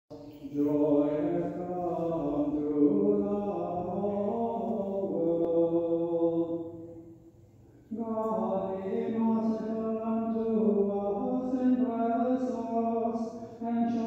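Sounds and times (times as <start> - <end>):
person singing a liturgical chant: 0.2 - 7.1, 7.9 - 14.0.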